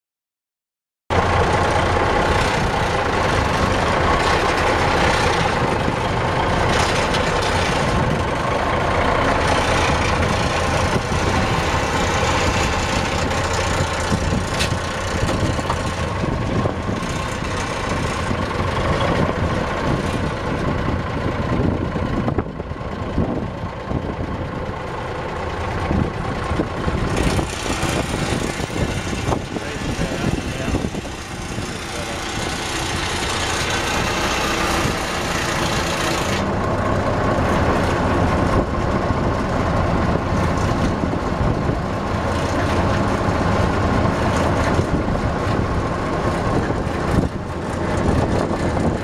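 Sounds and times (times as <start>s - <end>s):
diesel engine running: 1.1s - 49.0s.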